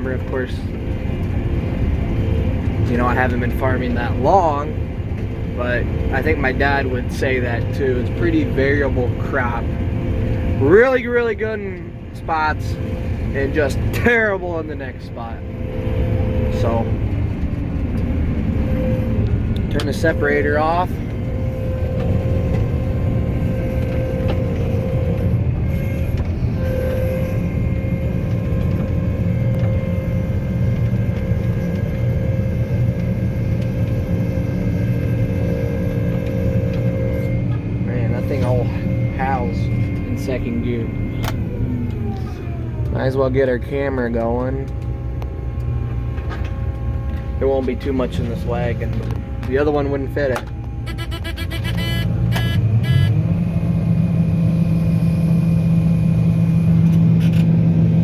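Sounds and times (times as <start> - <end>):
combine harvester engine rumble: 0.0 - 58.0
drivetrain howl: 0.0 - 58.0.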